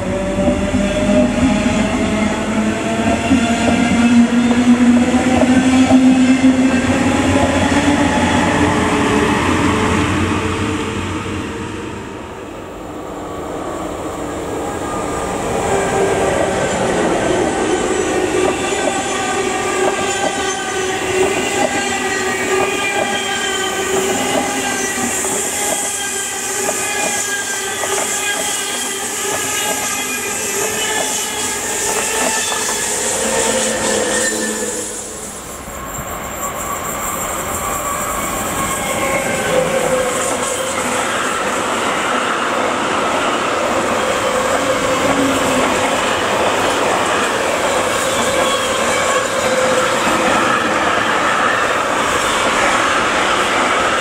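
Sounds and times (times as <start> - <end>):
freight train approaching: 0.0 - 54.0
high-speed train passing: 0.0 - 54.0
train whine: 0.0 - 54.0.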